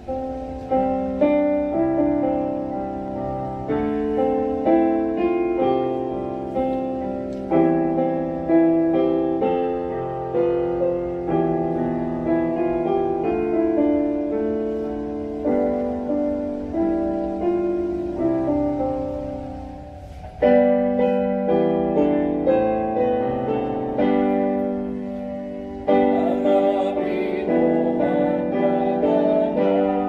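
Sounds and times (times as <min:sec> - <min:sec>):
digital piano chords: 0:00.0 - 0:30.0.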